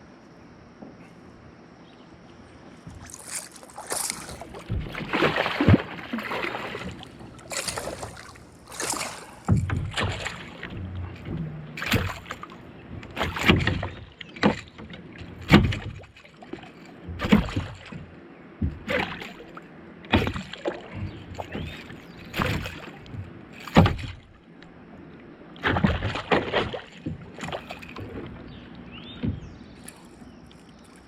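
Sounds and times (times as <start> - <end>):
water sloshing around boat: 0.0 - 31.0.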